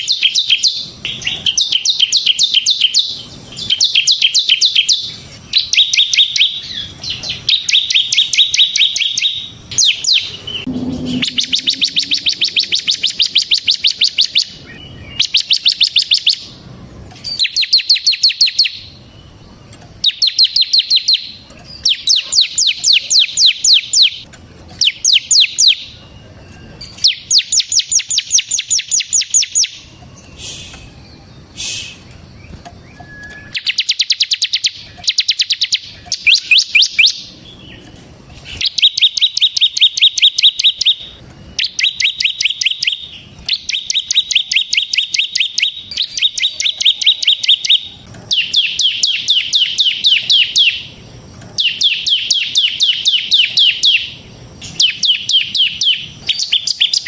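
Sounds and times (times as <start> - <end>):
bird singing rapid rattling trill: 0.0 - 57.0.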